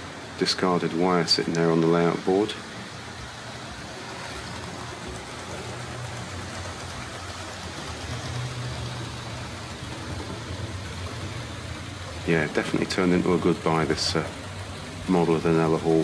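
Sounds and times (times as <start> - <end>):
even hiss: 0.0 - 16.0
model trains rumbling on track: 0.0 - 16.0.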